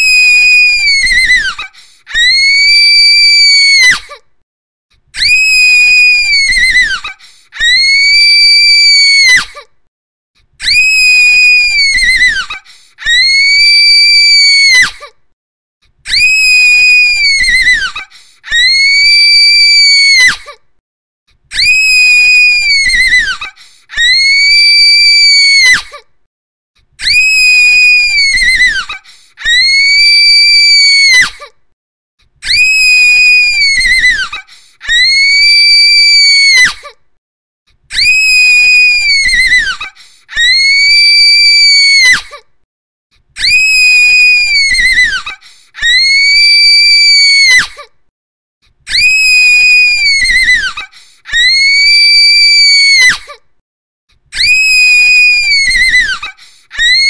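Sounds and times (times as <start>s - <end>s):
woman screaming shrilly: 0.0s - 4.1s, 5.2s - 9.6s, 10.6s - 15.0s, 16.1s - 20.5s, 21.5s - 25.9s, 27.0s - 31.4s, 32.4s - 36.8s, 37.9s - 42.4s, 43.4s - 47.8s, 48.9s - 53.4s, 54.3s - 57.0s.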